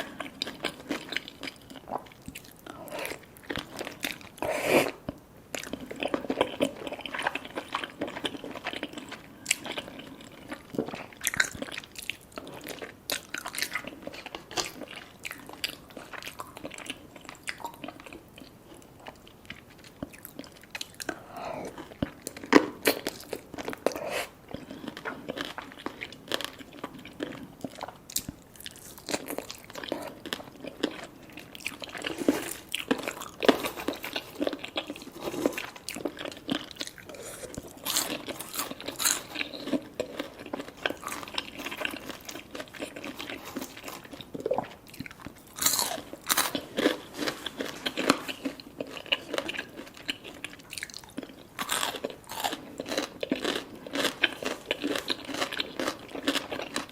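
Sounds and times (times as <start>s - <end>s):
person chewing crispy food: 0.0s - 56.9s.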